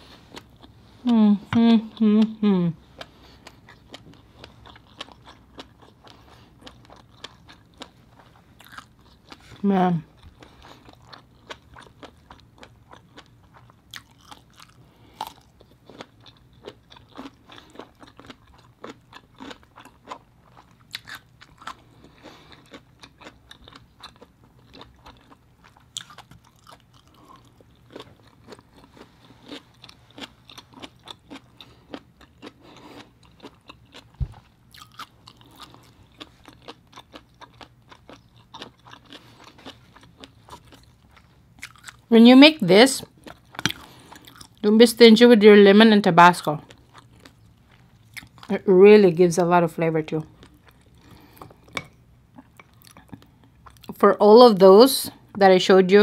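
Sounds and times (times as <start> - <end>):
chewing crisp cucumber: 0.0 - 42.1, 43.0 - 44.7, 46.5 - 48.6, 50.3 - 53.9
faint steady hum: 0.0 - 56.0.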